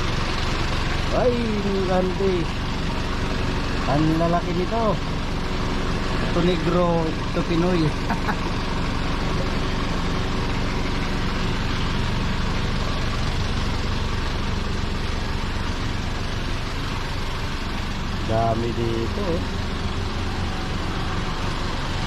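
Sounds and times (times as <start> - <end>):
constant noisy hiss: 0.0 - 22.0
vehicle engine running: 0.0 - 22.0.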